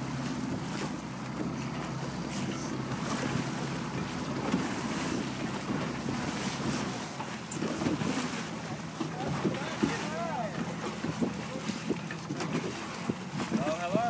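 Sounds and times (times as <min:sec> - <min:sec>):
water lapping against hulls: 0:00.0 - 0:14.0
wind buffeting microphone: 0:00.3 - 0:14.0.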